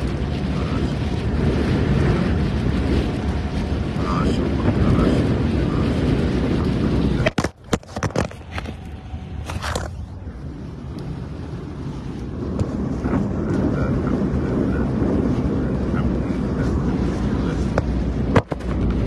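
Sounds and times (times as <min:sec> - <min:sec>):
car driving on wet road: 0:00.0 - 0:19.0
heavy rain: 0:00.0 - 0:19.0
wind noise on microphone: 0:00.0 - 0:19.0.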